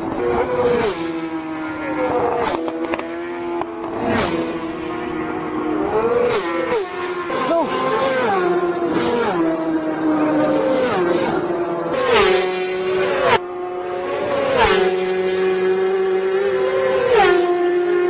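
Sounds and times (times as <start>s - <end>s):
racing motorcycles passing fast: 0.0s - 18.0s.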